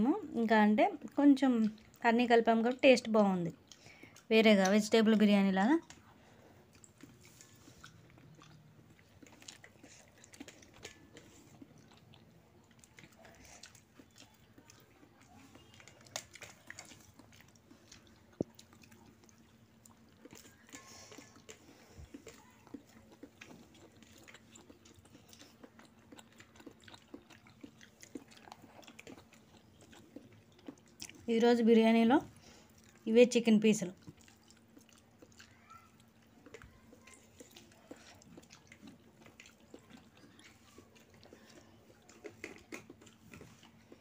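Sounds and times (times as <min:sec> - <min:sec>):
faint chewing: 0:00.1 - 0:44.0.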